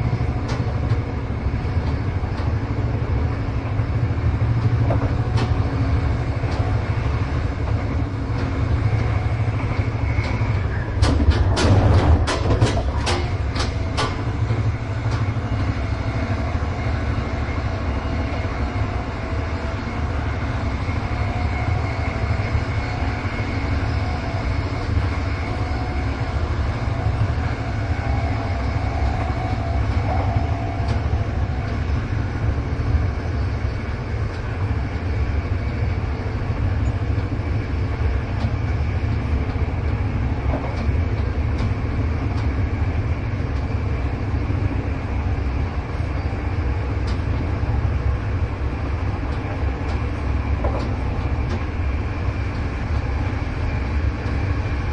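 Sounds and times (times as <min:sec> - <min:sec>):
rail joint clicks: 0:00.0 - 0:54.9
train wheels rumbling on track: 0:00.0 - 0:54.9.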